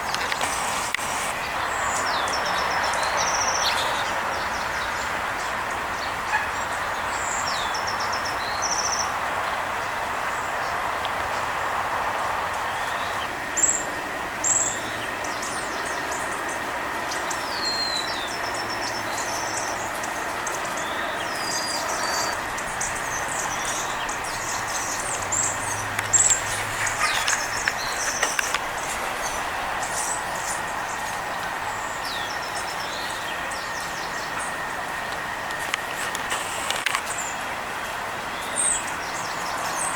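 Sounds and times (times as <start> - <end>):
distant road traffic hum: 0.0 - 39.9
songbirds chirping: 0.0 - 39.9.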